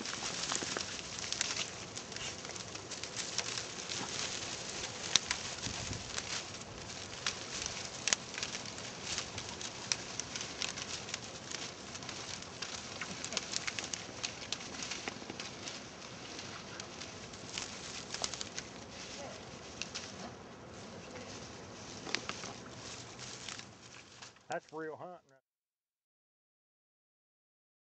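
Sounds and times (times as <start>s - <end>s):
twigs snapping: 0.0s - 20.4s, 21.1s - 24.5s
dry brush rustling and crackling: 0.0s - 25.2s.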